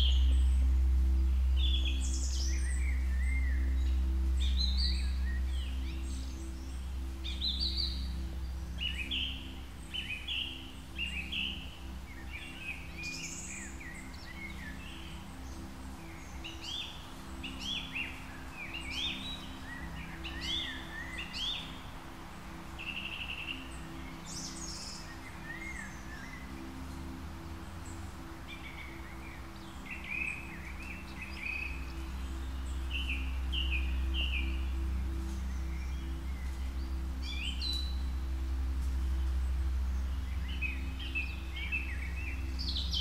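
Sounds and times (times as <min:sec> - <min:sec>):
low steady hum: 0:00.0 - 0:43.0
small songbirds chirping: 0:00.0 - 0:43.0.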